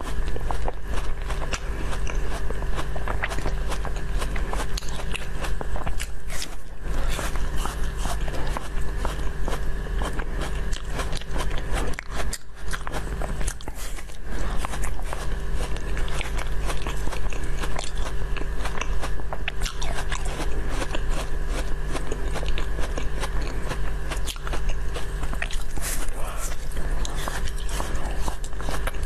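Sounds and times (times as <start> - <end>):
crunchy snack chewing: 0.0 - 29.0
low background hum: 0.0 - 29.0.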